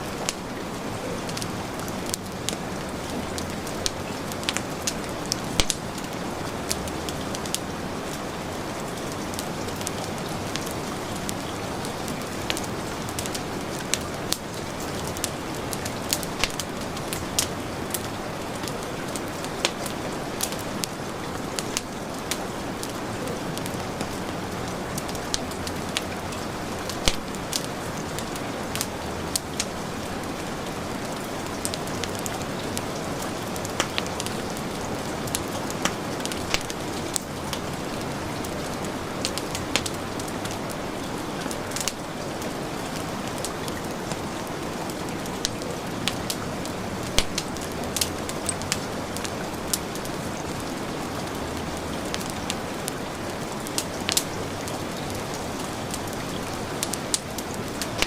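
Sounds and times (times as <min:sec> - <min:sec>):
heavy rain falling: 0:00.0 - 0:58.0
wood fire crackling and popping: 0:00.0 - 0:58.0.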